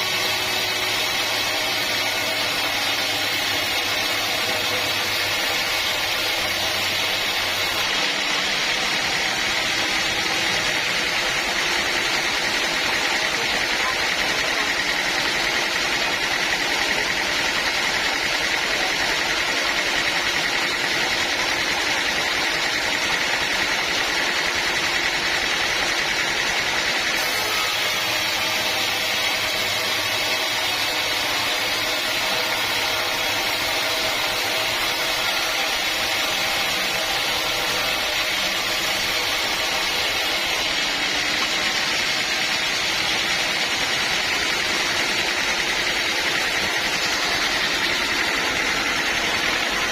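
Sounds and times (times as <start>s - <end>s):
sawmill machinery drone: 0.0s - 49.9s.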